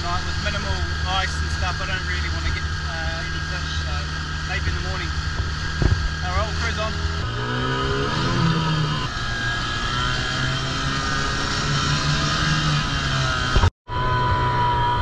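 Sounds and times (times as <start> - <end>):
outboard motor running: 0.0 - 13.7.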